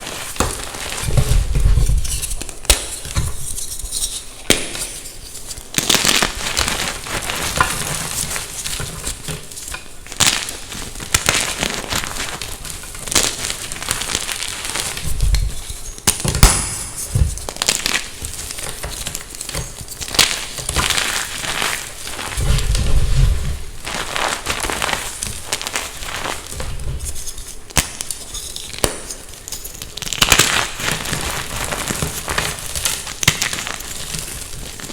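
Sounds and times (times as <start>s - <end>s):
chalk crunching and crackling: 0.0s - 34.9s.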